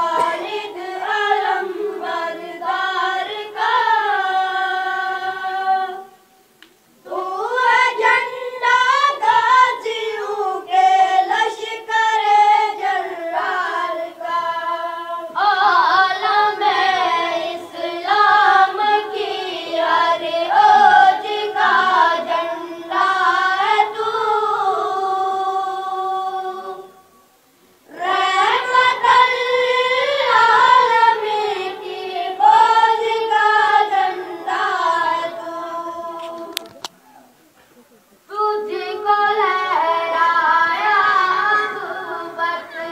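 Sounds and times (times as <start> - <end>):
person singing unaccompanied: 0.0 - 27.1, 27.9 - 37.0, 38.3 - 42.9.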